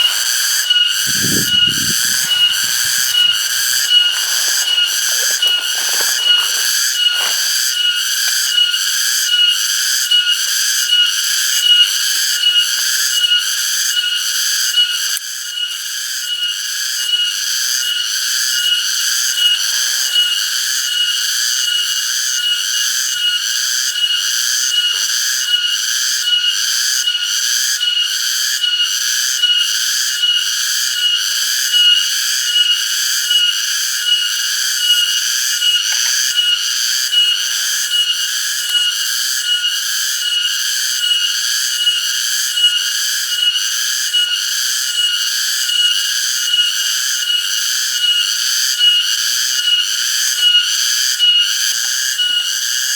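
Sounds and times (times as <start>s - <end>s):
cicadas singing: 0.0s - 52.9s.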